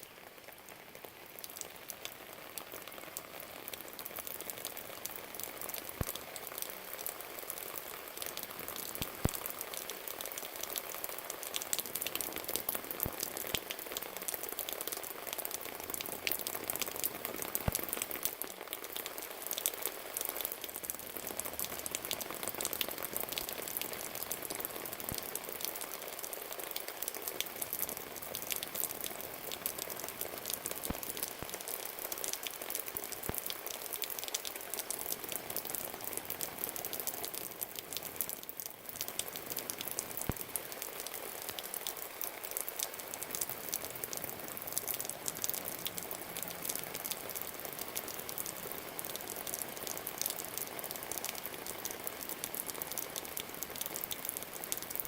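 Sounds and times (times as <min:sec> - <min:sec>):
rain pattering on hard surface: 0:00.0 - 0:55.0.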